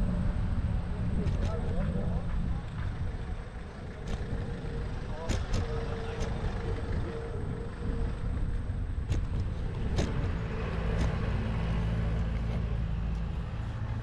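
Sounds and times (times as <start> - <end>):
road traffic: 0.0 - 14.0
vehicle engine rumbling: 0.0 - 14.0.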